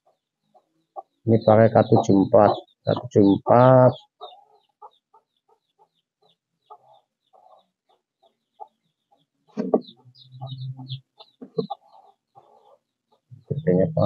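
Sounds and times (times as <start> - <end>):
faint bird calls: 0.0 - 14.0.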